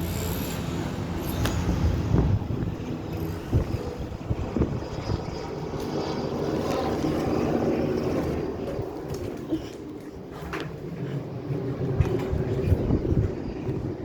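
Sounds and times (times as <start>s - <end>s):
helicopter flying: 0.0s - 14.0s.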